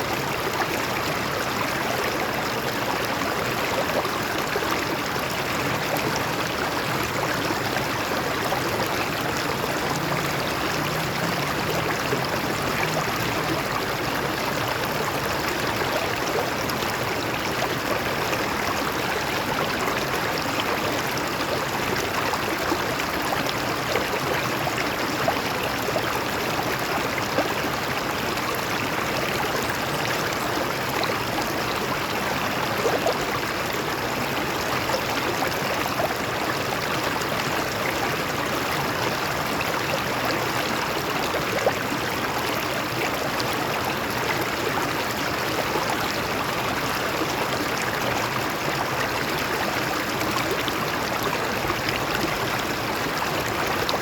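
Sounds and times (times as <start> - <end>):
stream water flowing over rocks: 0.0 - 54.0.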